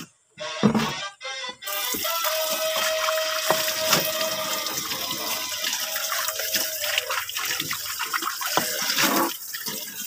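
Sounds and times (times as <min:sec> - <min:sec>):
tap water running into bowl: 0:01.7 - 0:10.0.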